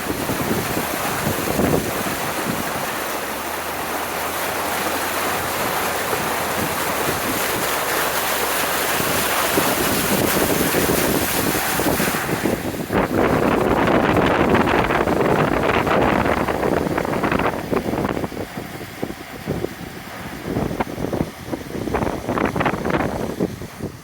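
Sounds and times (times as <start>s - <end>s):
truck rushing noise: 0.0s - 24.0s.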